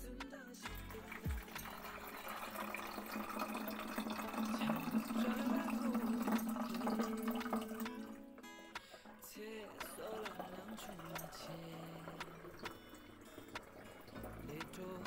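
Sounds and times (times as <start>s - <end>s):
liquid pouring into strainer: 0.8s - 8.3s, 8.9s - 15.0s.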